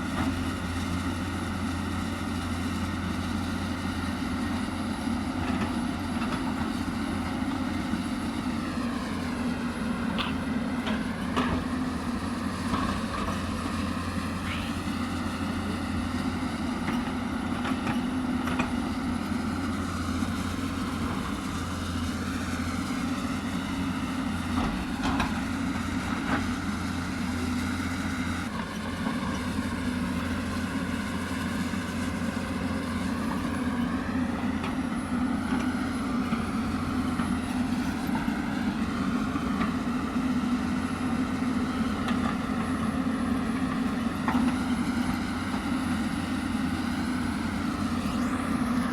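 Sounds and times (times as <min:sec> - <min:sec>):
excavator diesel engine under load: 0:00.0 - 0:48.9
hydraulic whine: 0:04.2 - 0:48.9.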